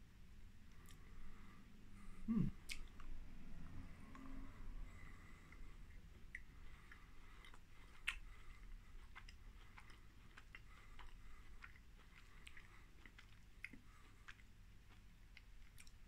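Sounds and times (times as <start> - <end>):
chewing chocolate biscuit: 2.4 - 16.0.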